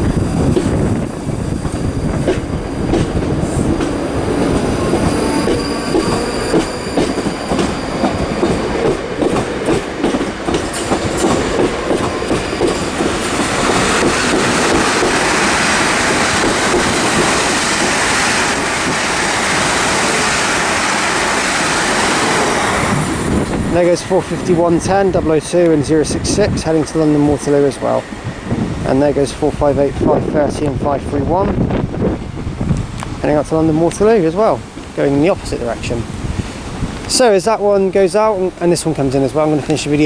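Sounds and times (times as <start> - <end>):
train passing at speed: 0.0 - 40.0
train wheels clattering over rail joints: 0.0 - 40.0.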